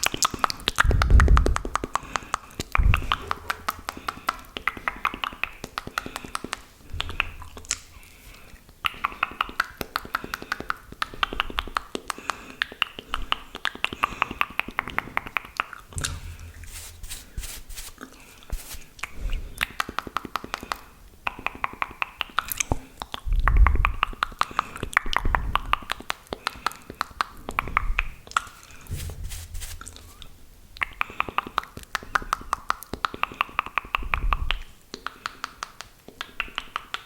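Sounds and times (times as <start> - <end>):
lip smacks and pops: 0.0 - 7.9, 8.5 - 16.2, 19.0 - 28.9, 30.8 - 37.0
saliva clicks: 0.0 - 29.0, 29.6 - 37.0.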